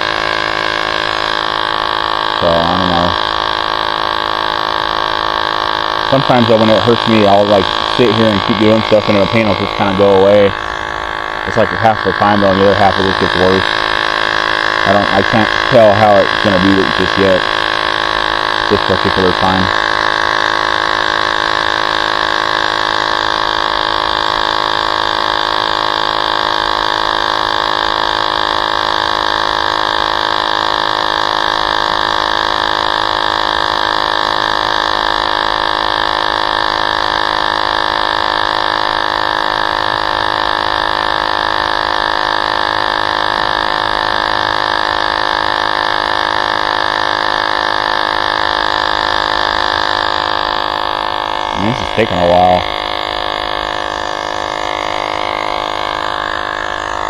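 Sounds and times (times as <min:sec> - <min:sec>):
electric tire inflator droning: 0:00.0 - 0:57.0.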